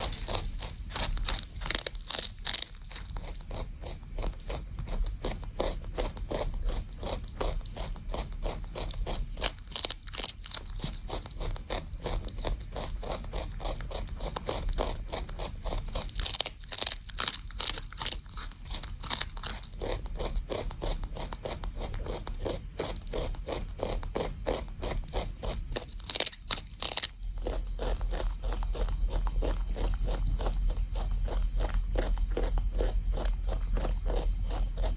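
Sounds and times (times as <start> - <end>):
rabbit chewing celery: 0.0 - 34.9.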